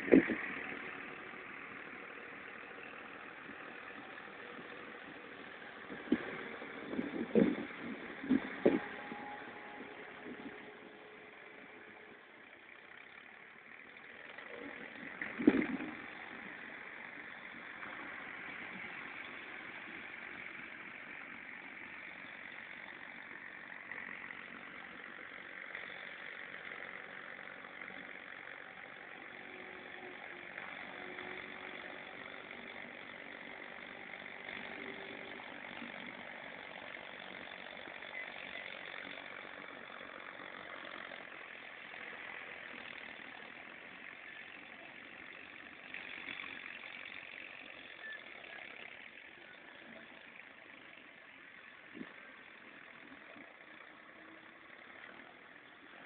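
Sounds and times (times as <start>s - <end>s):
distant tractor engine running: 0.0s - 56.0s.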